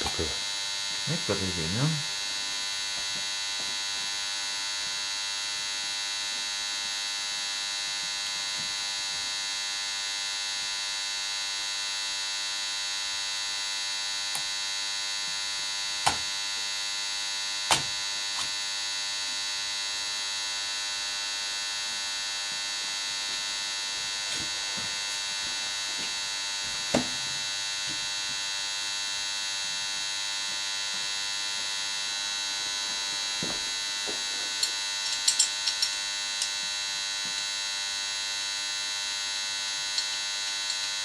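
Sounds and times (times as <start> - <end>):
steady electrical hum: 0.0 - 41.0.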